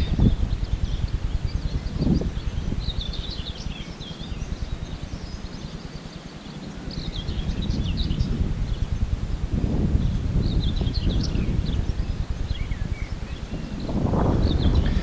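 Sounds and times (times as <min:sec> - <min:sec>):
small birds chirping: 0:00.0 - 0:15.0
wind buffeting microphone: 0:00.0 - 0:15.0.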